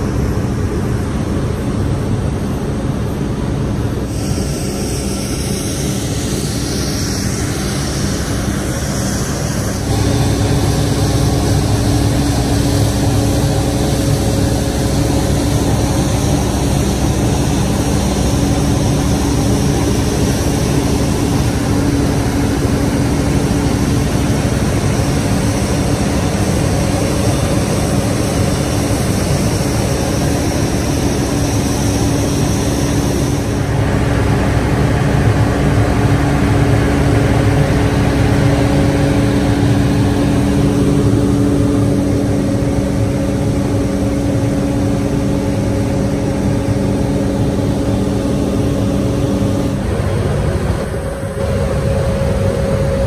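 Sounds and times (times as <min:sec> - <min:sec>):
low hum of ground equipment: 0:00.0 - 0:53.0
mechanical drone: 0:00.0 - 0:53.0.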